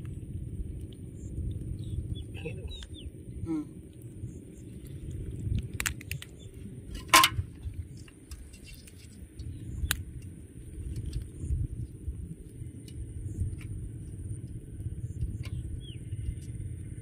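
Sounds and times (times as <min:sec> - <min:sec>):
low fluctuating rumble: 0:00.0 - 0:17.0.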